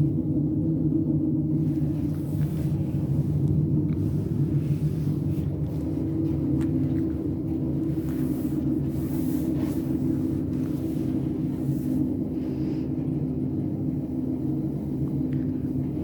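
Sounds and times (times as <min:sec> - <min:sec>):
constant hum: 0:00.0 - 0:16.0.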